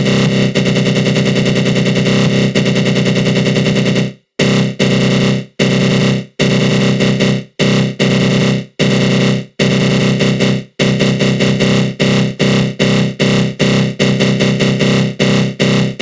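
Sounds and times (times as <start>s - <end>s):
harsh buzzy synth drone: 0.0s - 16.0s.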